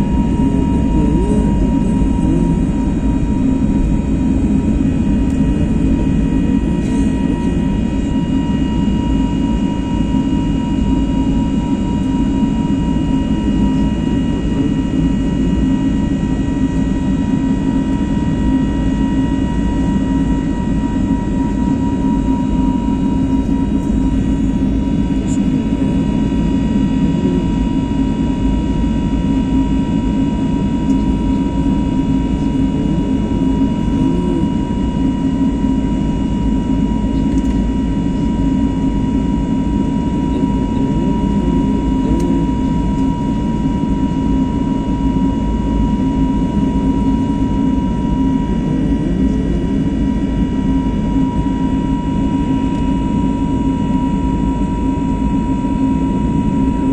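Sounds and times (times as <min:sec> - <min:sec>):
high engine whine: 0:00.0 - 0:56.9
jet engine drone in cabin: 0:00.0 - 0:56.9.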